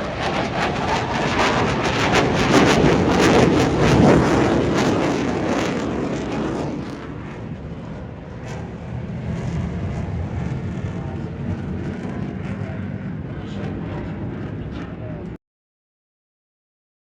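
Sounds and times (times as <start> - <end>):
jet aircraft passing: 0.0 - 15.4.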